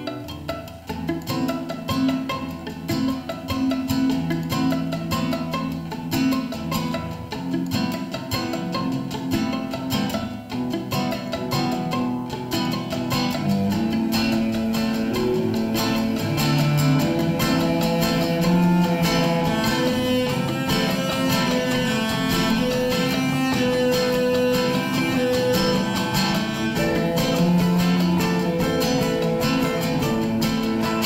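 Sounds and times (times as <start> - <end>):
bowed cello and violin notes: 0.0 - 31.0
picked acoustic guitars: 0.0 - 31.0.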